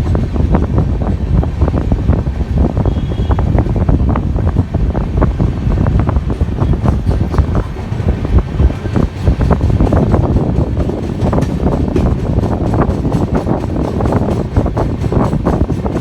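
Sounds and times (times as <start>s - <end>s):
moving train rumble: 0.0s - 16.0s
wind buffeting microphone: 0.0s - 16.0s.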